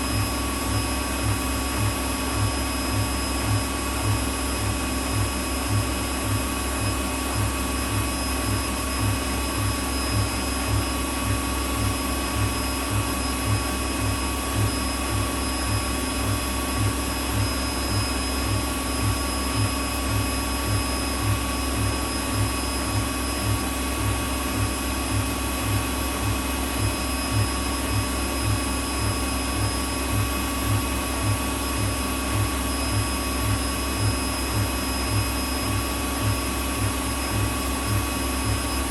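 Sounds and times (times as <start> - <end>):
regular low throb: 0.0 - 38.9
washing machine spinning: 0.0 - 38.9.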